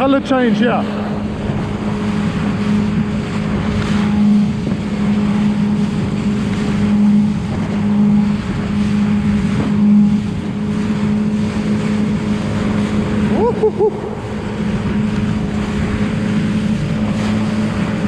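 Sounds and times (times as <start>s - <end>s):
motorboat engine humming: 0.0s - 18.0s
rush of wind and water: 0.0s - 18.0s.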